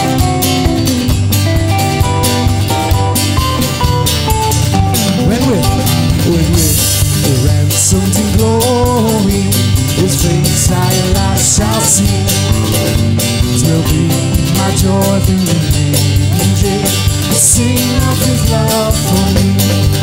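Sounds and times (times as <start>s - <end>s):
country gospel band music: 0.0s - 20.0s.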